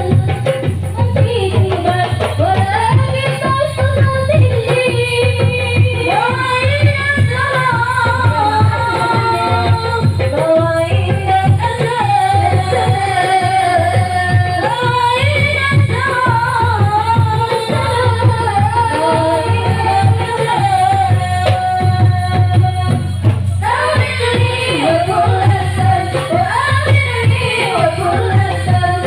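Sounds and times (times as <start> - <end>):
frame drums beating: 0.0 - 29.0.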